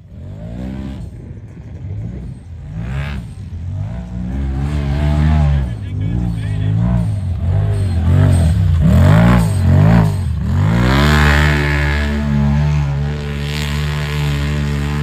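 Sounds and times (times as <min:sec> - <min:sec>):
utility vehicle engine revving: 0:00.0 - 0:15.0.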